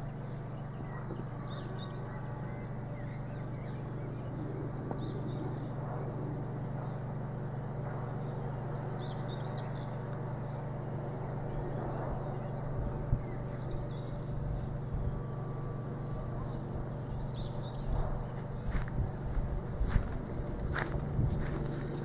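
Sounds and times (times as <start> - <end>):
birds chirping: 0.0 - 22.0
workshop machinery humming: 0.0 - 22.0.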